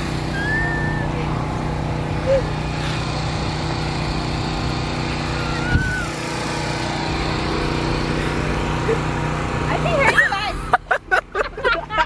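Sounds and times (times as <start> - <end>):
small motor droning: 0.0 - 11.7.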